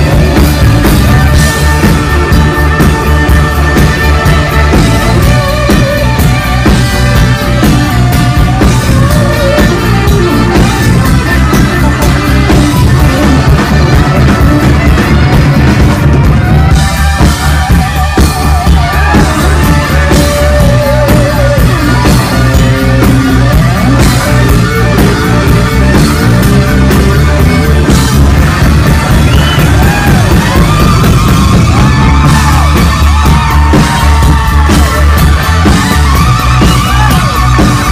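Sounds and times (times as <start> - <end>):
bass guitar: 0.0 - 37.9
drum kit: 0.0 - 37.9
electric guitar: 0.0 - 37.9
saxophone: 0.0 - 37.9.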